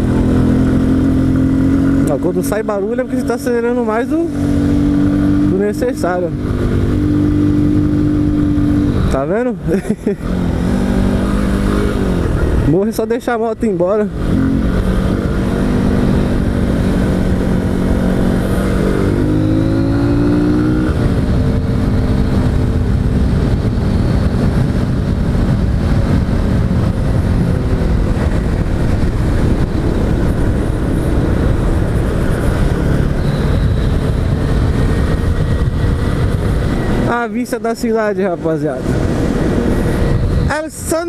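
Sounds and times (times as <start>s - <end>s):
motorcycle engine accelerating: 0.0s - 12.8s, 14.0s - 41.0s
wind and road noise: 0.0s - 41.0s.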